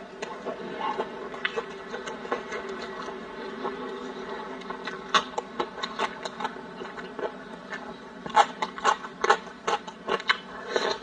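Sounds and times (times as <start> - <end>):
person chewing with wet smacks: 0.2 - 11.0.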